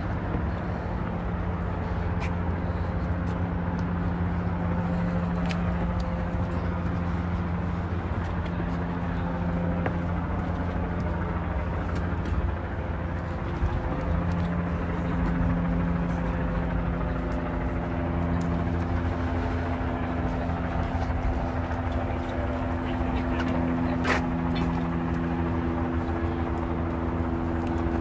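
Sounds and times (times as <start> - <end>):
motor drone with hum tones: 0.0 - 28.0
outdoor rumble: 0.0 - 28.0.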